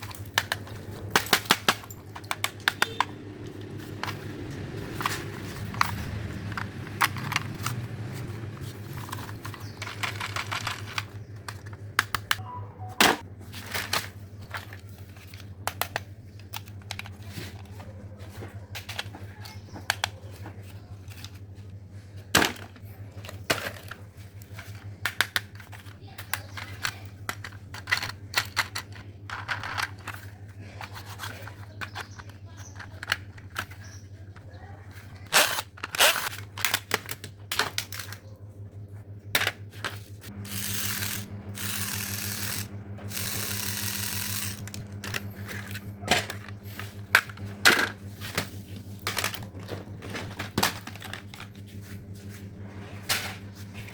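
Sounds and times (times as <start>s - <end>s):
plastic toys rummaged through: 0.0s - 12.4s, 13.4s - 53.9s
steady low hum: 0.0s - 53.9s.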